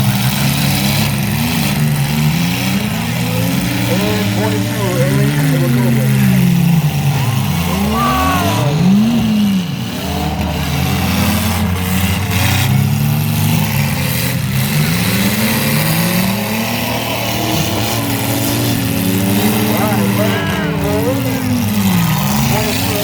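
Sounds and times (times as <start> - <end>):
small truck engines revving: 0.0 - 23.0.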